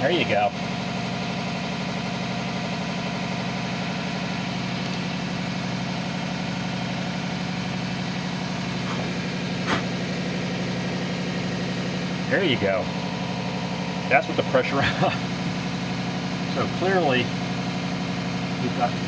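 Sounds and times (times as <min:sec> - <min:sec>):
air compressor humming: 0:00.0 - 0:19.0.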